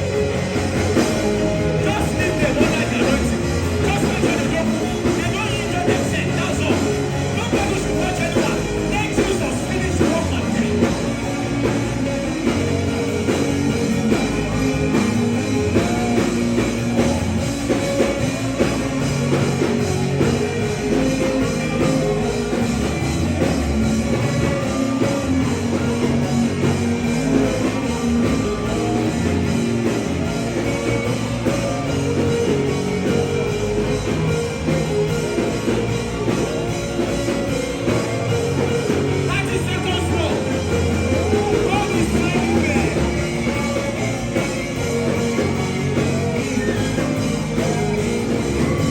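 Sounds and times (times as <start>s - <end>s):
band playing with drums and guitar: 0.0s - 48.9s.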